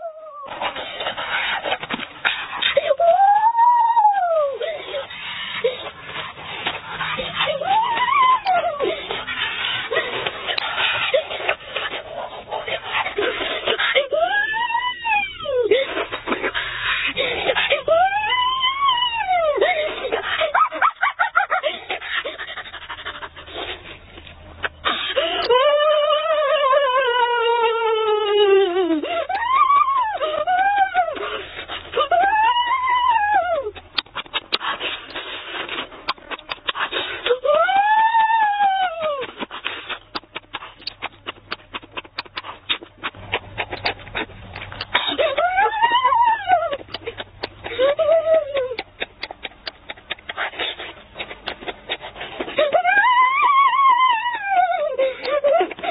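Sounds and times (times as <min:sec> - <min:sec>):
wet chewing and lip-smacking: 0:00.4 - 0:26.5, 0:29.1 - 0:55.9.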